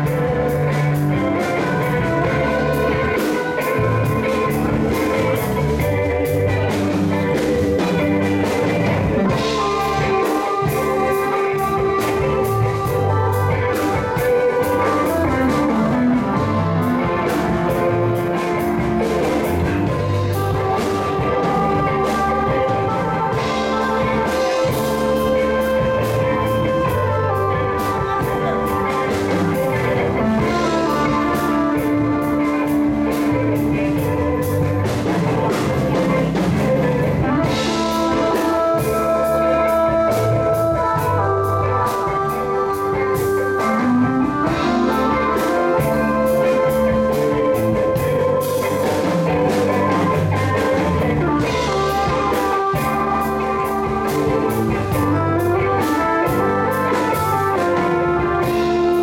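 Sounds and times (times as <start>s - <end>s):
live band playing instrumental: 0.0s - 59.0s.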